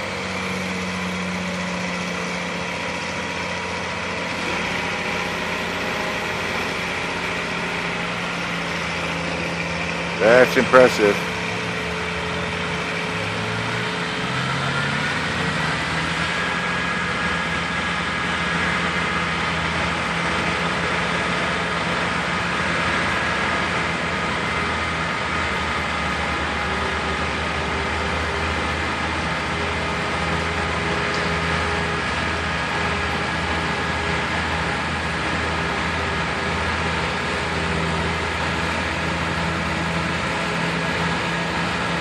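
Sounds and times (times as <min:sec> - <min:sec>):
large engine running: 0:00.0 - 0:42.0.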